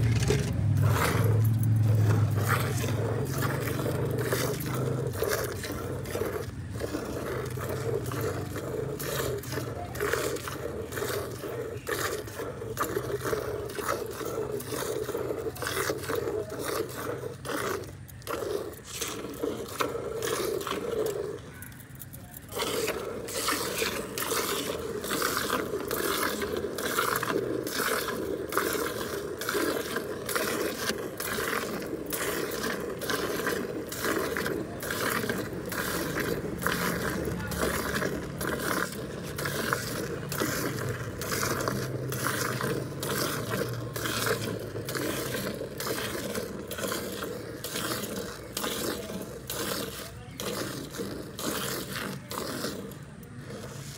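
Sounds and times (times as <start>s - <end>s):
milk squirting into steel bucket: 0.0s - 53.9s.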